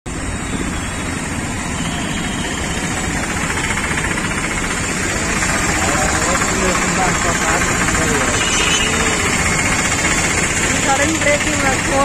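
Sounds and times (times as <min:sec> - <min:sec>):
traffic engines crawling: 0:00.1 - 0:12.0
close engine idling: 0:01.8 - 0:12.0.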